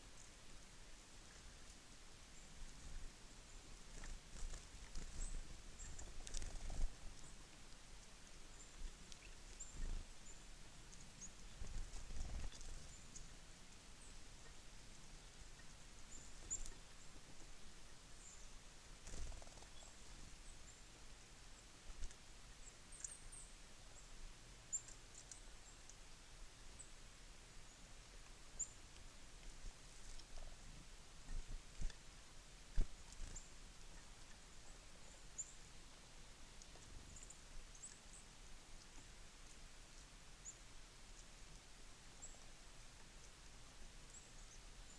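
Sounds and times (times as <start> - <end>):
background hiss: 0.0 - 44.9
small birds chipping: 0.0 - 44.9.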